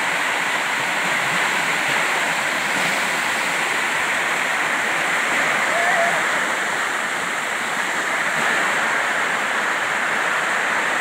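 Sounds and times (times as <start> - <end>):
waterfall over rocks: 0.0 - 11.0.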